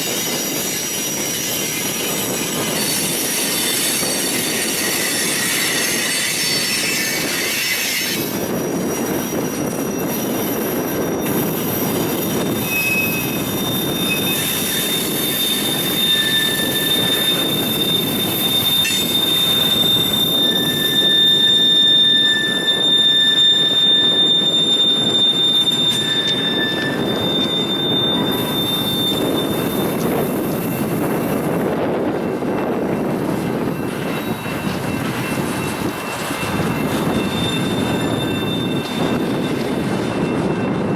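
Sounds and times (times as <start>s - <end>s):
metallic wheel squeal: 0.0s - 40.9s
train wheels rumbling on rail: 0.0s - 40.9s.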